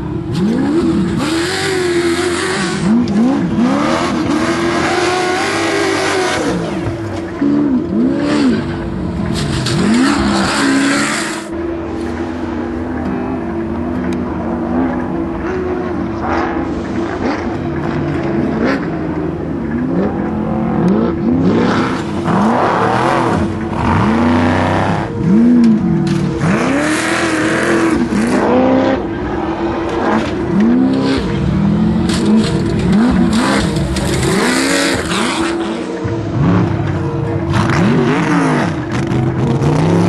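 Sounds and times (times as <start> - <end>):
engine revving: 0.0 - 40.0.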